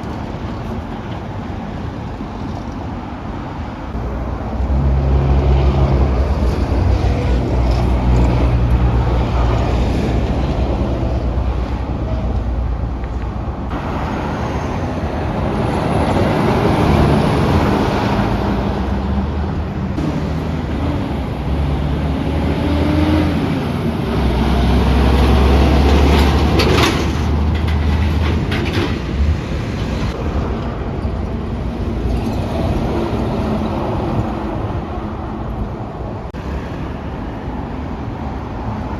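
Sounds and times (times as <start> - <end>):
tyre and road noise: 0.0 - 38.9
truck engine drone: 3.9 - 38.9.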